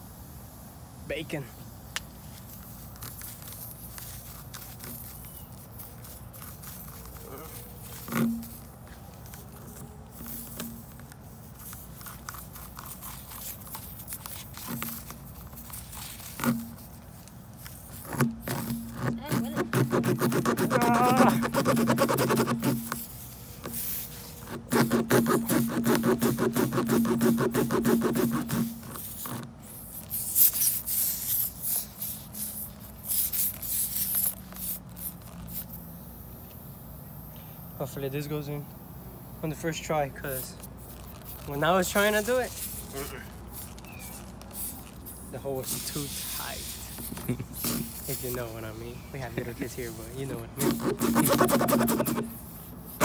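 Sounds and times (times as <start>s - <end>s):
hand tools scratching and rubbing: 2.4s - 35.6s, 39.5s - 53.0s.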